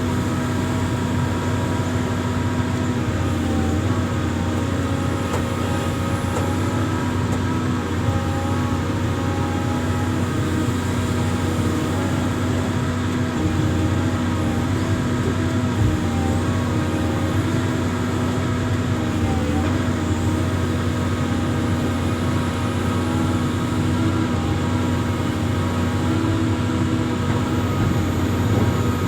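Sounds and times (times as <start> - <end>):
excavator engine humming: 0.0 - 29.0.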